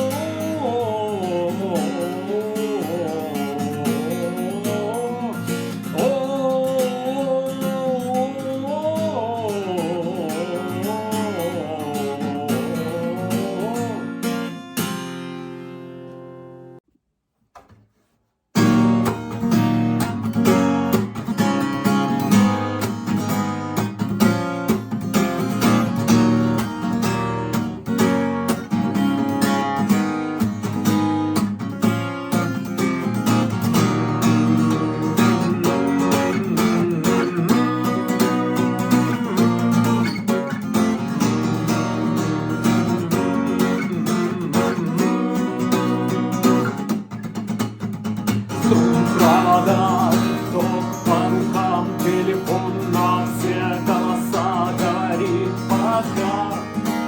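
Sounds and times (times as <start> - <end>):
acoustic guitar strumming: 0.0 - 16.8, 18.6 - 57.0.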